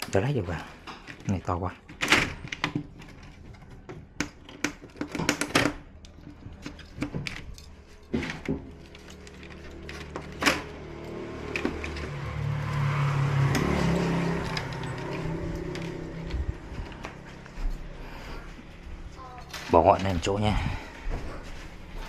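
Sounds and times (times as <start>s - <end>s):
parts clicking and knocking: 0.0s - 17.9s.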